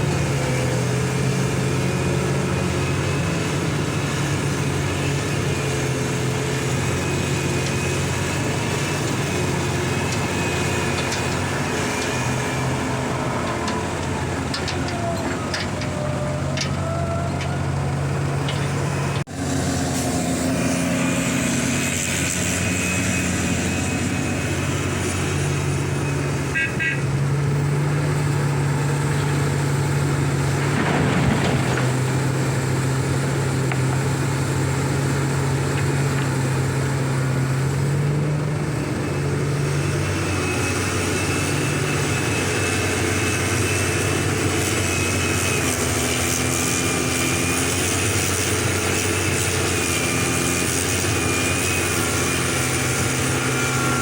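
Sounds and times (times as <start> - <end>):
excavator diesel engine under load: 0.0 - 54.0.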